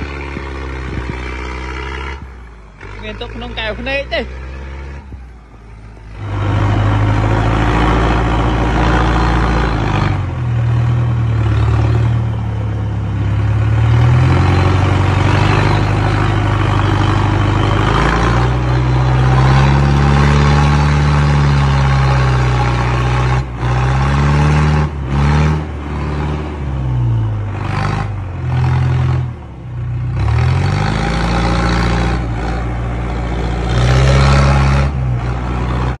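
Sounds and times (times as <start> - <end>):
tractor engine revving: 0.0 - 36.0.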